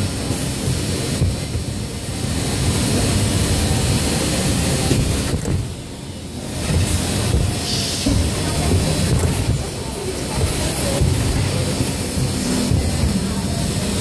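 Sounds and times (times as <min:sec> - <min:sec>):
machinery rumble: 0:00.0 - 0:14.0
noisy hiss: 0:00.0 - 0:14.0.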